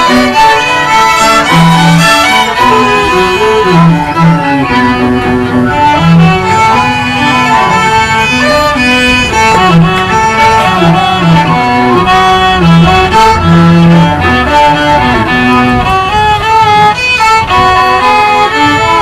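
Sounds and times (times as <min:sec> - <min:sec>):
lower strings: 0:00.0 - 0:19.0
violin melody: 0:00.0 - 0:19.0.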